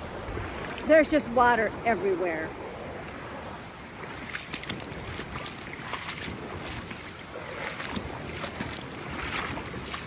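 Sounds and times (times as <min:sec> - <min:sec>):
rushing floodwater: 0:00.0 - 0:10.0
wind buffeting microphone: 0:00.0 - 0:10.0.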